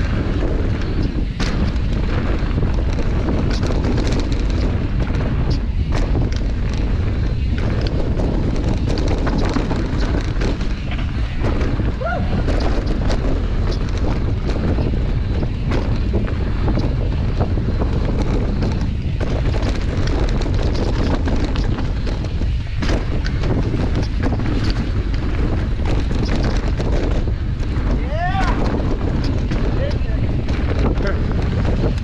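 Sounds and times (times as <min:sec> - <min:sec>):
bike rattling over rough ground: 0:00.0 - 0:32.0
wind buffeting microphone: 0:00.0 - 0:32.0.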